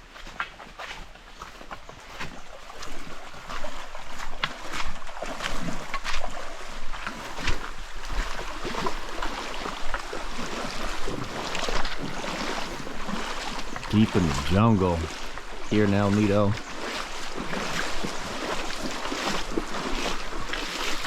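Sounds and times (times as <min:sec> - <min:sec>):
footsteps crunching on trail: 0:00.0 - 0:21.0.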